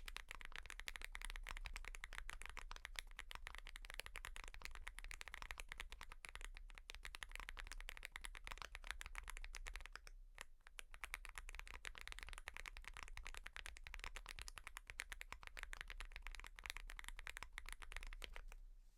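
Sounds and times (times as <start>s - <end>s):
typing on mechanical keyboard: 0.0s - 18.6s.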